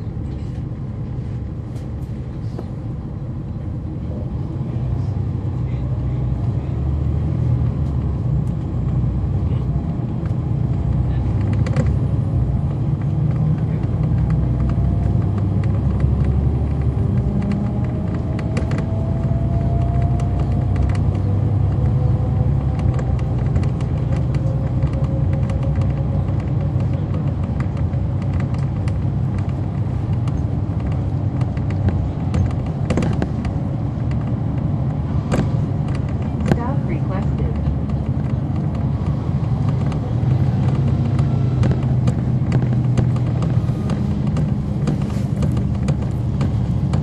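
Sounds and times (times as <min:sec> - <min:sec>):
bus engine rumble: 0:00.0 - 0:47.0
light rattles and clicks: 0:07.5 - 0:47.0.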